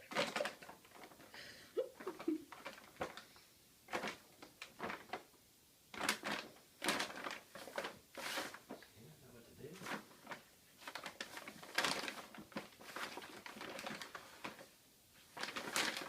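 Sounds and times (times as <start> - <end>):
bag rustling and crinkling: 0.0 - 1.4, 2.0 - 3.3, 3.9 - 5.3, 5.9 - 8.8, 9.6 - 16.0.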